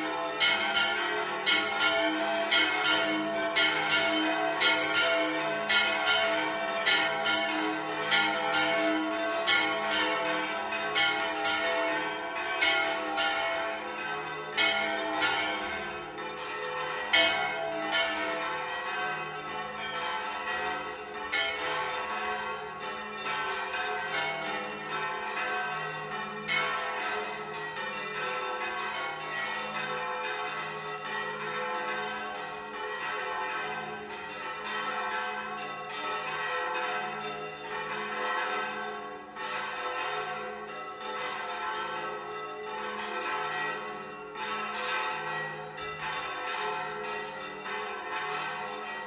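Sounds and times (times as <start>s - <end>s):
church bells ringing a peal: 0.0s - 49.0s.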